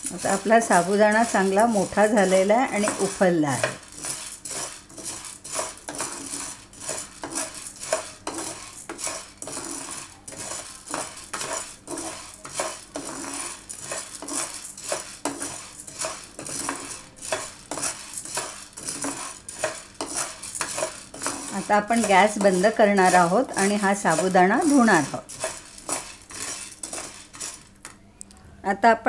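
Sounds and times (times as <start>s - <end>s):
spatula scraping and rattling in pan: 0.0s - 27.9s.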